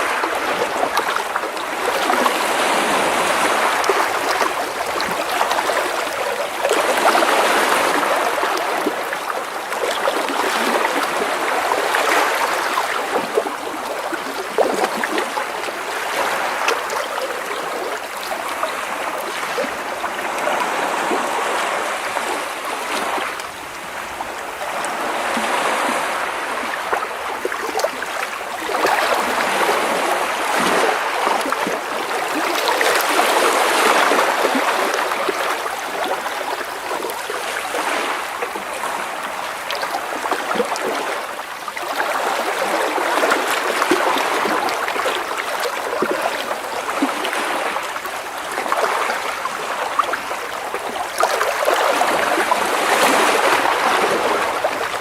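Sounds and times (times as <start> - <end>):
waves splashing against rocks: 0.0 - 55.0.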